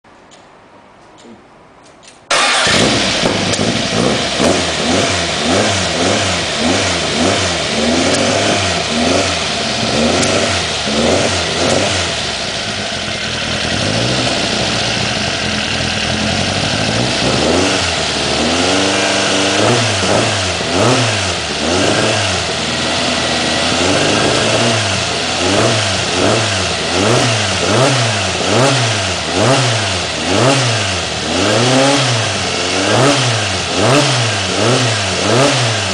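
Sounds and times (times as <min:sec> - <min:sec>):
car engine revving: 0:02.3 - 0:35.9.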